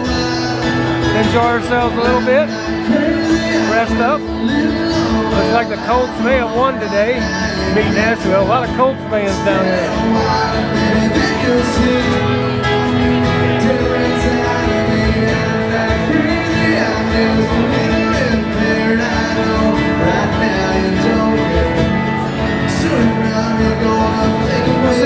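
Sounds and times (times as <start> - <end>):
guitars: 0.0 - 25.0
live country band playing: 0.0 - 25.0
person singing: 0.0 - 25.0.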